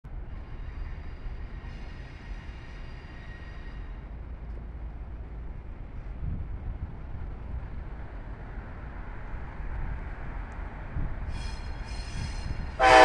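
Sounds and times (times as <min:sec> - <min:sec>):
diesel locomotive rumble: 0:00.0 - 0:13.0.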